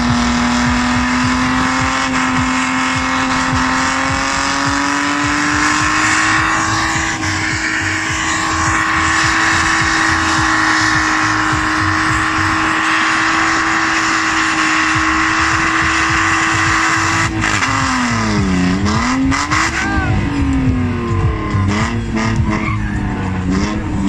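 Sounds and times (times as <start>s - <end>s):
car engine revving high: 0.0s - 24.0s
spinning tyres hissing: 0.0s - 24.0s.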